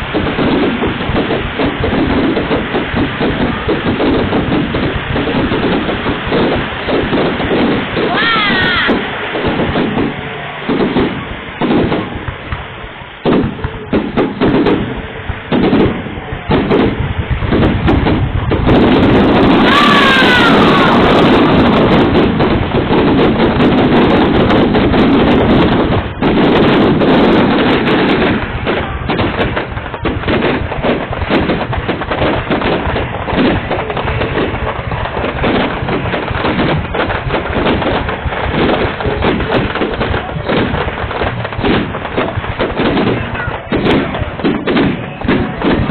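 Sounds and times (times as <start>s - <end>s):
falling firework whistle: 0.0s - 12.6s, 13.2s - 45.9s
fireworks bangs and crackling: 0.0s - 45.9s.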